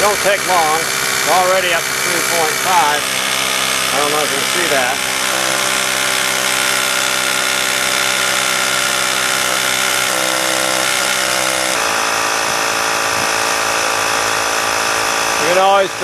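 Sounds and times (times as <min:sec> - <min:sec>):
electric tire inflator running: 0:00.0 - 0:16.0.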